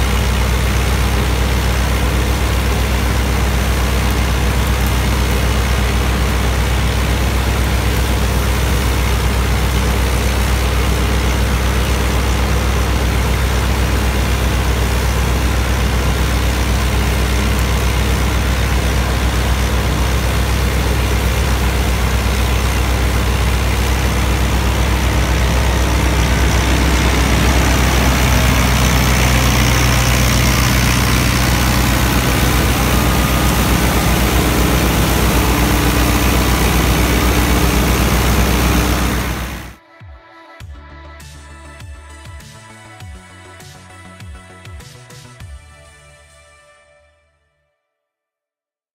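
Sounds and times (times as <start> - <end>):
straw chopper running: 0.0 - 39.8
tractor diesel engine running: 0.0 - 39.8.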